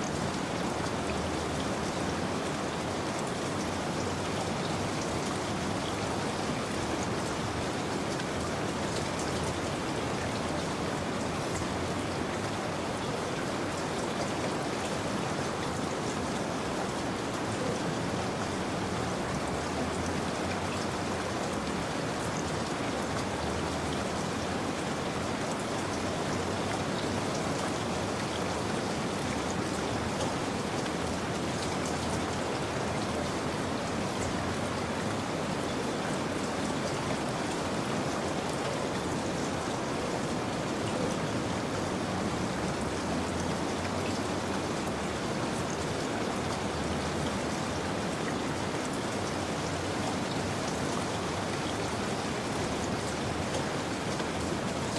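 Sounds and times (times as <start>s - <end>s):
rain pattering on surface: 0.0s - 54.9s.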